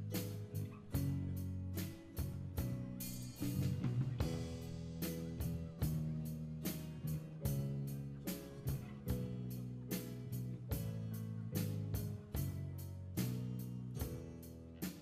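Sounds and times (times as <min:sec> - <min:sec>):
drum kit beat: 0:00.0 - 0:15.0
electric guitar chords: 0:00.0 - 0:15.0.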